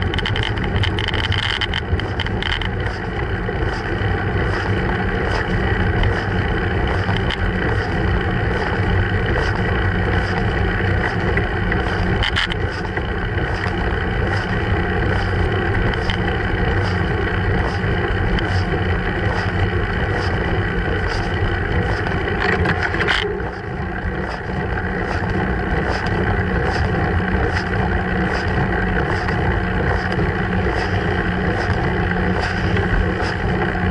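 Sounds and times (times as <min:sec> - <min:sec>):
road rumble: 0:00.0 - 0:33.9.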